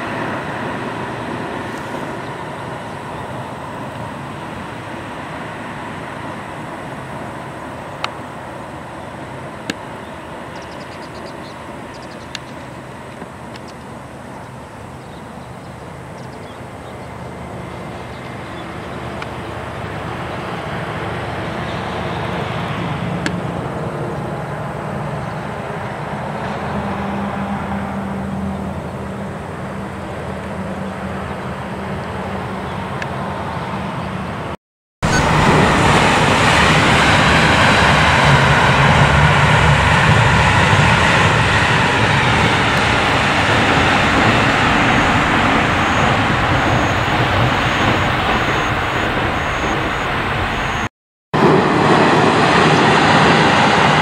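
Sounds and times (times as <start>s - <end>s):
train rumbling over bridge: 0.0s - 54.0s.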